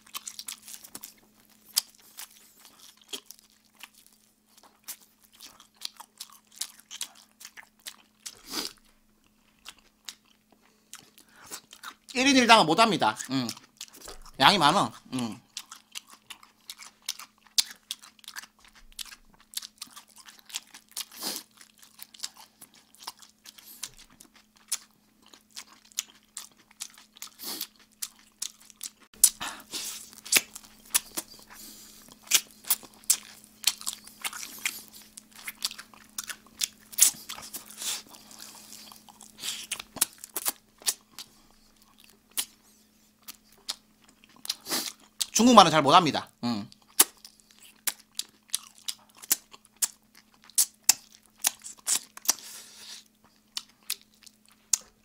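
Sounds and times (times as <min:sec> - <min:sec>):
crunching and chewing fried chicken: 0:00.0 - 0:55.0
faint steady hum: 0:00.0 - 0:55.0.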